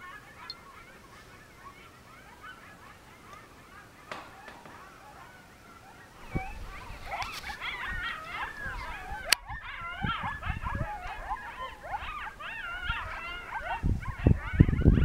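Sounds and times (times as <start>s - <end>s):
coyotes yipping and howling: 0.0s - 15.0s.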